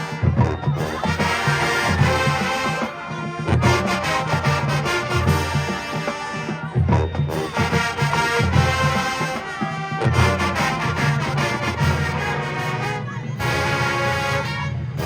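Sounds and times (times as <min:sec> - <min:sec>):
drums: 0:00.0 - 0:15.0
marching band playing: 0:00.0 - 0:15.0.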